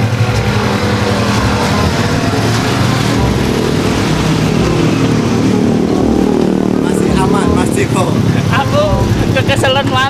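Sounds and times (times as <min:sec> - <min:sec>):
motorcycle engines running: 0:00.0 - 0:10.0
road traffic: 0:00.0 - 0:10.0.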